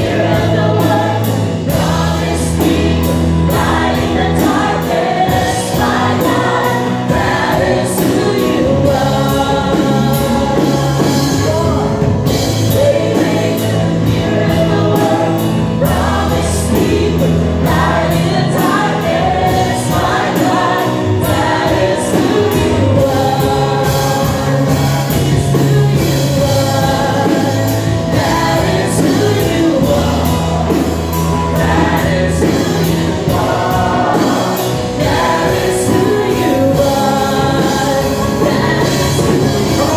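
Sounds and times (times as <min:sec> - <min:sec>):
choir singing with accompaniment: 0:00.0 - 0:39.9.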